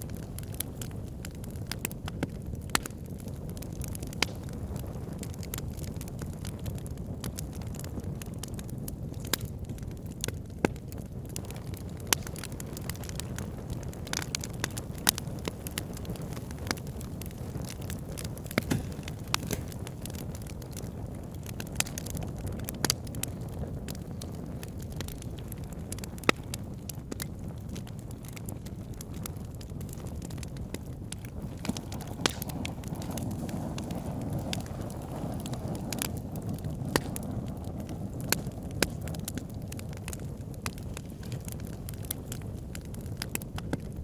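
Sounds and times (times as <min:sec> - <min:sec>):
fire crackling and popping: 0:00.0 - 0:44.0
fire roaring in fireplace: 0:00.0 - 0:44.0.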